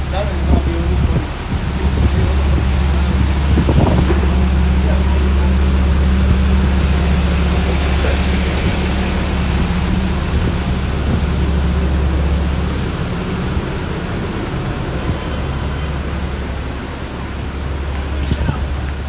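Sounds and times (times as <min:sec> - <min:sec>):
steady rain hiss: 0:00.0 - 0:19.0
wind rumble on microphone: 0:00.0 - 0:19.0.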